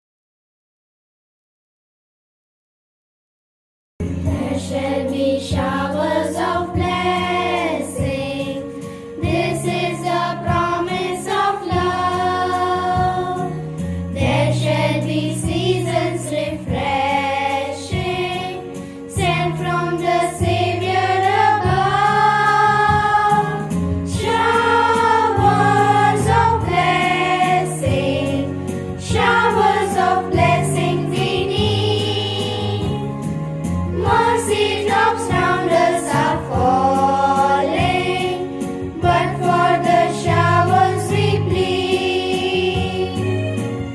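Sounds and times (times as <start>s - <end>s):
instrumental accompaniment: 4.0s - 43.9s
choir singing: 4.2s - 8.6s, 9.2s - 13.6s, 14.2s - 33.2s, 33.9s - 43.5s.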